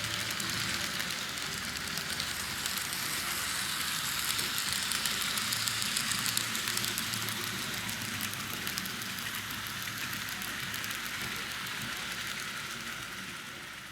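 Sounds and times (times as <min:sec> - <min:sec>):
model train motor hum: 0:00.0 - 0:13.9
wheels clicking on rails: 0:00.0 - 0:13.9.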